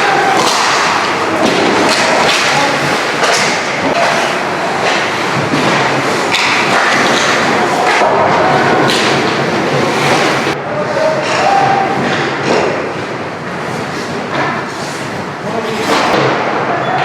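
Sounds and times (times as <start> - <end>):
puck and sticks hitting boards: 0.0 - 15.2, 15.8 - 17.0
loud arena noise: 0.0 - 17.0.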